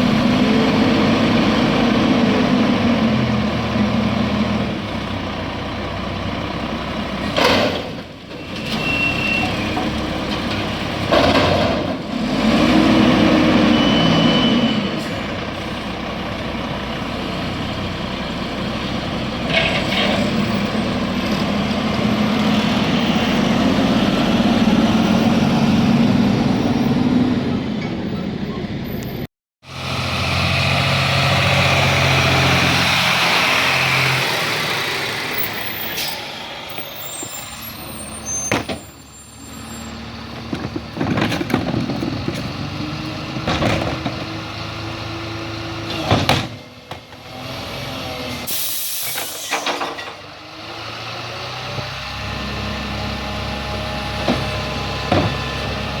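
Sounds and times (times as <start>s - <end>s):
garbage truck engine revving: 0.0s - 28.8s, 29.6s - 56.0s.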